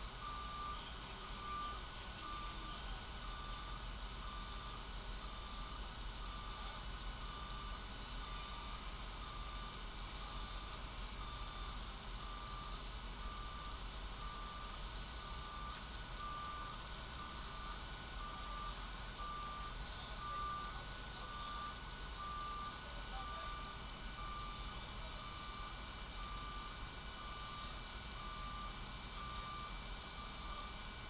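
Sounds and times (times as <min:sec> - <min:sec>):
reversing alarm beeping: 0:00.0 - 0:31.0.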